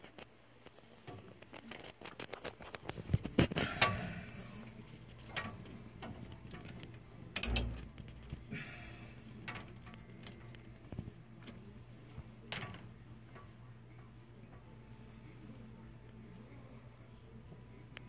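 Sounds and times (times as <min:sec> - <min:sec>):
handling clicks and rustles: 0:00.0 - 0:14.6
faint low hum: 0:00.0 - 0:18.0.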